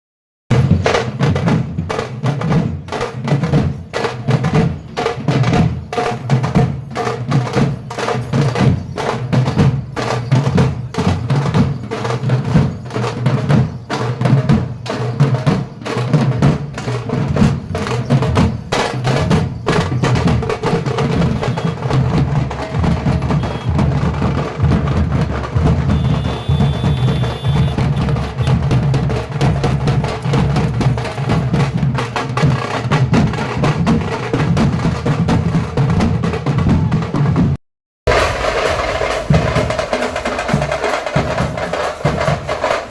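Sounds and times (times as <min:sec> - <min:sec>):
drums beaten fast: 0:00.5 - 0:42.9.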